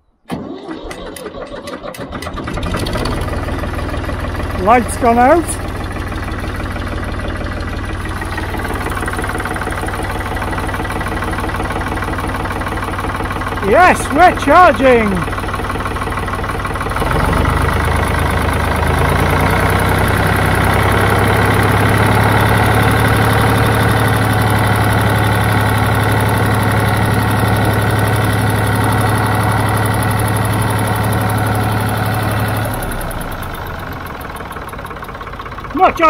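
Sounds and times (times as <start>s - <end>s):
tractor engine running: 0.3s - 36.0s.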